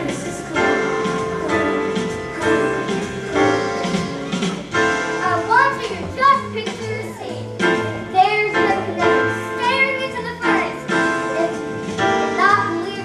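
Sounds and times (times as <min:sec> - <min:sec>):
instrumental accompaniment: 0:00.0 - 0:13.0.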